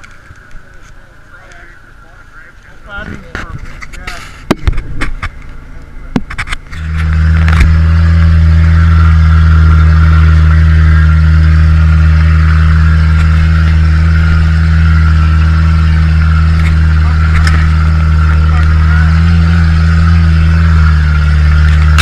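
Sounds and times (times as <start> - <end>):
car engine drone inside cab: 0.0 - 22.0.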